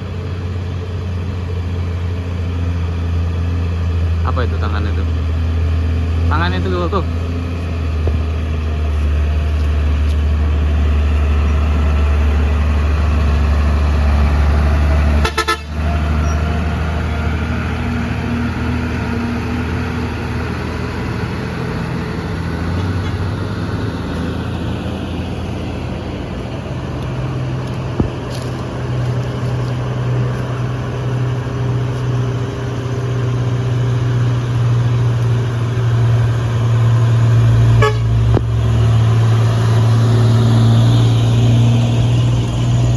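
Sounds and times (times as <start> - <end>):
diesel truck engines labouring: 0.0 - 42.9.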